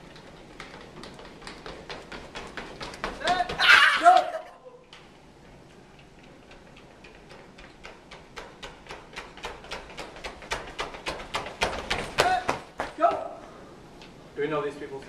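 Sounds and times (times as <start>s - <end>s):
running footsteps on tiled floor: 0.0s - 13.6s.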